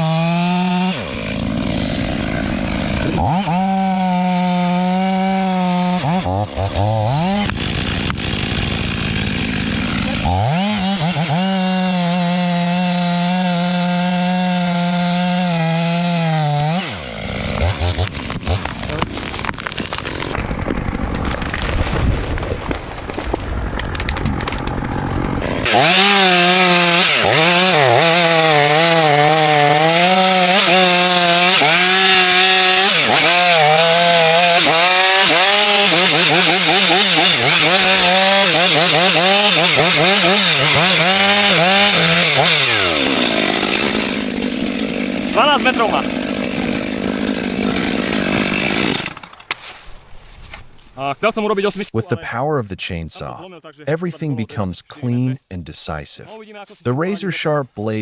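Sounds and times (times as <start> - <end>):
chainsaw running: 0.0 - 21.7, 23.6 - 49.5
chainsaw cutting timber: 0.0 - 49.9.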